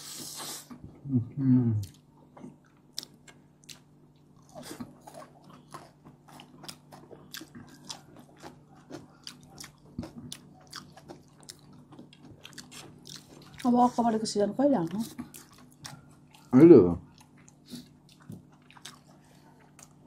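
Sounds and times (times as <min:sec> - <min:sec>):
crunchy chewing: 0:01.8 - 0:14.1, 0:14.8 - 0:20.0.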